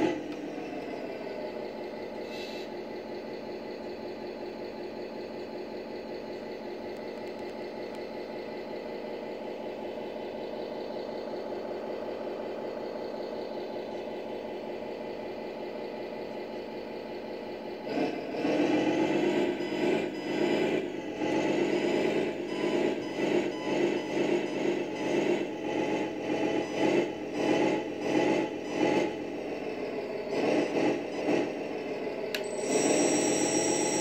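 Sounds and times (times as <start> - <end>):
simulated diesel engine idling: 0.0 - 34.0.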